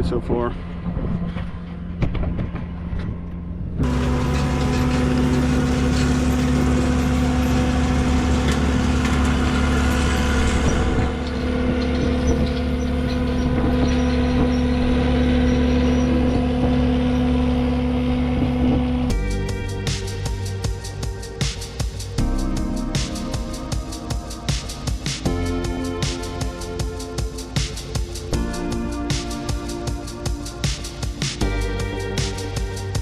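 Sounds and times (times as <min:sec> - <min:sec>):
skid-steer brush-cutter running: 0:03.8 - 0:33.0.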